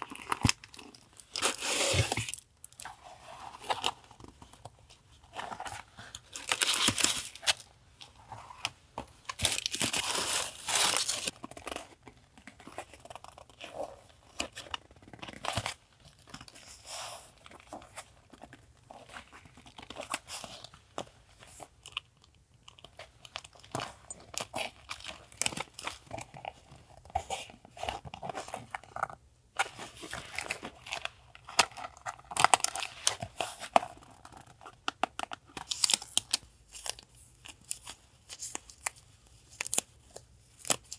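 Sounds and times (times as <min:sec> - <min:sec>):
paper and packaging crinkling: 0:00.0 - 0:20.8, 0:27.2 - 0:40.9.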